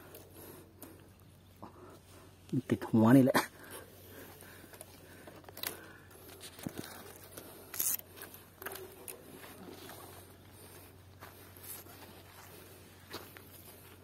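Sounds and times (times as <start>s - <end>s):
branches rustling and scraping: 2.2s - 14.0s.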